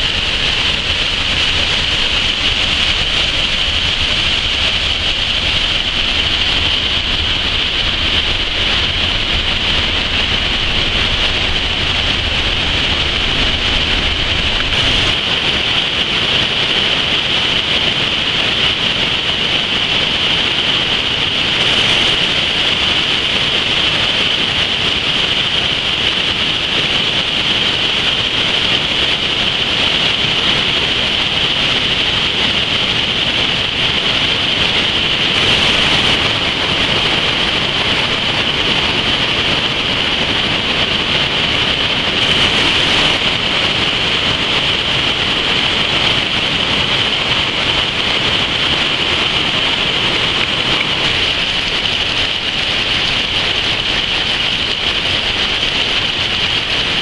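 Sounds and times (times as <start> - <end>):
water cascading over rocks: 0.0 - 57.0.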